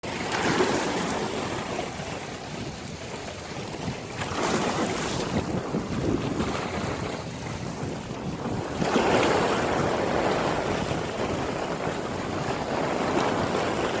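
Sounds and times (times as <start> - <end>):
sea waves washing onto beach: 0.0 - 14.0
wind buffeting microphone: 0.0 - 14.0.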